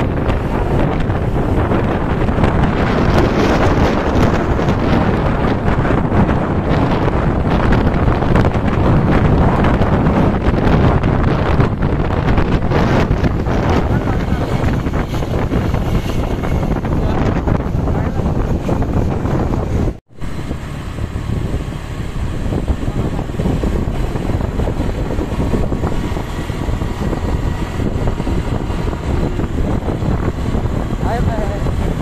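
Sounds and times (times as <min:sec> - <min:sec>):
vehicle road and engine noise: 0:00.0 - 0:32.0
wind buffeting microphone: 0:00.0 - 0:32.0.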